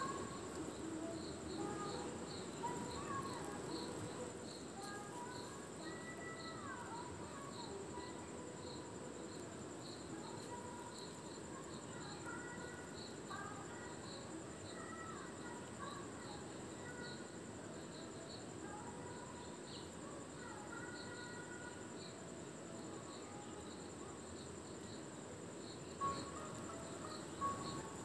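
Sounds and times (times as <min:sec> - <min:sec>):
high-pitched insect trill: 0:00.0 - 0:28.0.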